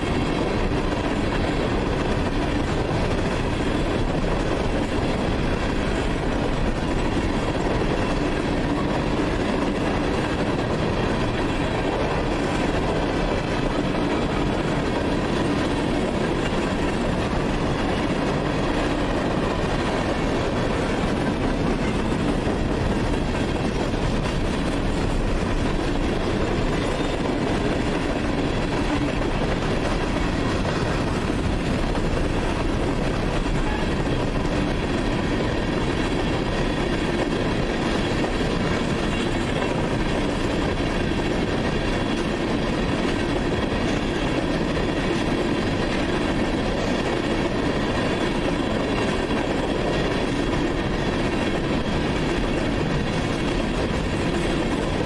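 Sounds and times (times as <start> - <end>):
train wheels rolling on rail: 0.0 - 55.0.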